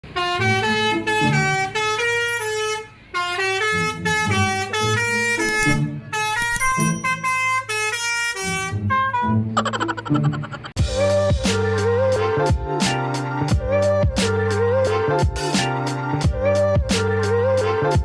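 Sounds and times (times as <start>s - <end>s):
multi-tone bus horn playing a tune: 0.0s - 9.6s, 10.9s - 18.0s.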